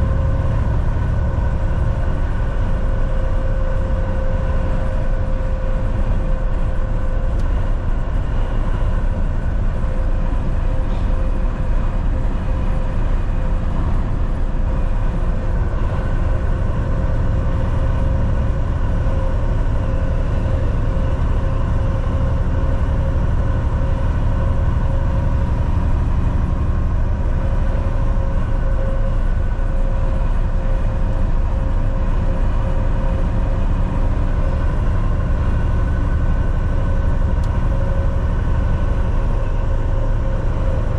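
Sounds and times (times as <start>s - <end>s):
constant high hum: 0.0s - 40.9s
truck engine drone: 0.0s - 40.9s.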